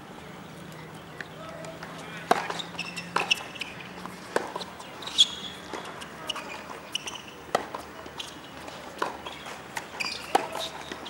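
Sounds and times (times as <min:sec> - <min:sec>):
tennis balls bouncing on court: 0:00.6 - 0:11.0
tennis balls struck by rackets: 0:01.2 - 0:11.0.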